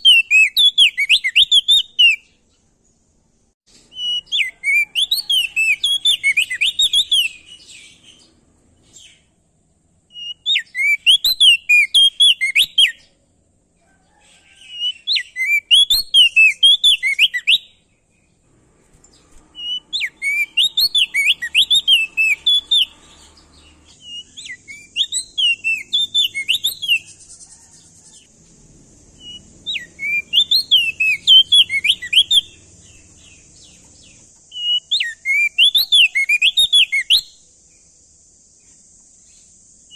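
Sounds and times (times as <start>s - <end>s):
songbird whistling: 0.0s - 2.4s, 3.8s - 9.3s, 10.1s - 13.2s, 14.4s - 18.4s, 19.1s - 28.3s, 29.1s - 37.4s
faint steady hiss: 0.0s - 39.9s.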